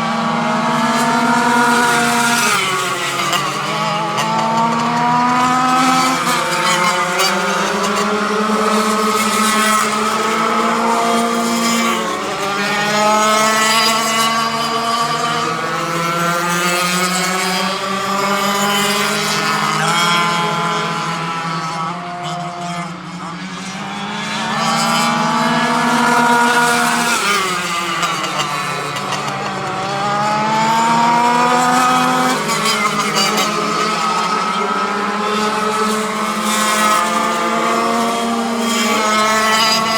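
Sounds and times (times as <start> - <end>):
go-kart engines racing: 0.0 - 39.9.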